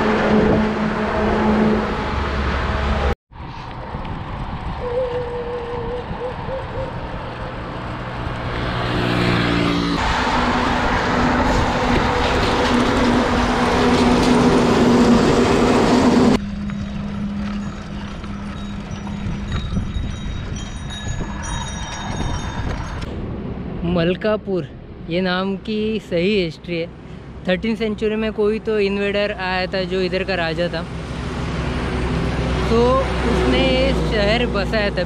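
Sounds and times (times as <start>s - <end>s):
truck passing close: 0.0s - 23.8s, 29.7s - 35.0s
distant traffic hum: 0.0s - 35.0s
road noise: 0.0s - 35.0s.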